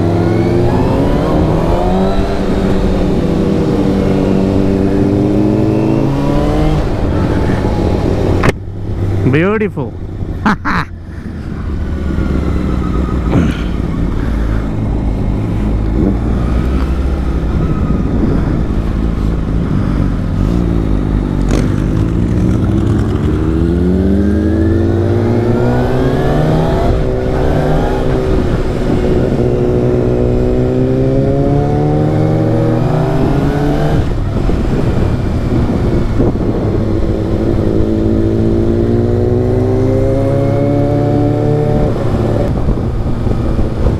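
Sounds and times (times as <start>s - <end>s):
motorcycle engine revving: 0.0s - 9.2s, 11.3s - 43.9s.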